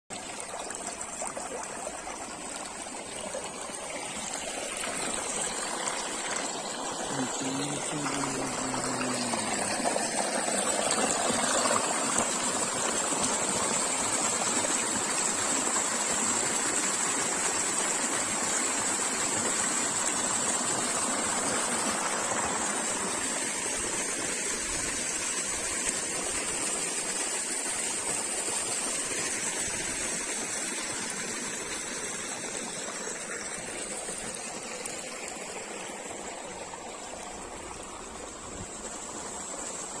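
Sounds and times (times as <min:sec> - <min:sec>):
water rushing: 0:00.1 - 0:40.0.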